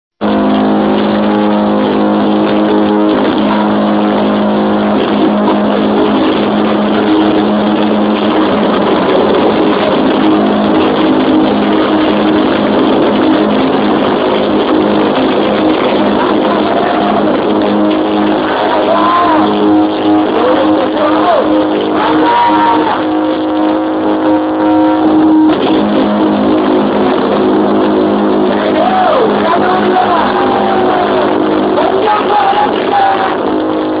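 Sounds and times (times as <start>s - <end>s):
distorted electric guitars droning: 0.2s - 34.0s
wailing guitar pitch bends: 0.2s - 34.0s.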